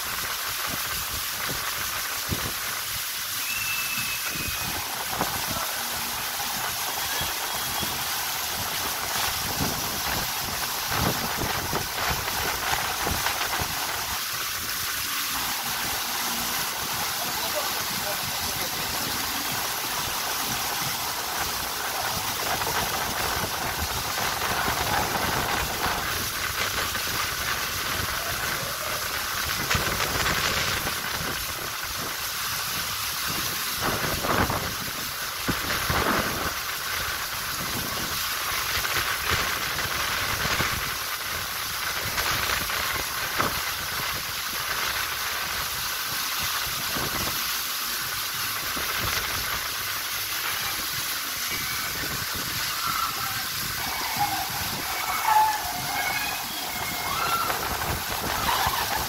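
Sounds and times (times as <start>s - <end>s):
water rushing over a slide: 0.0s - 59.0s.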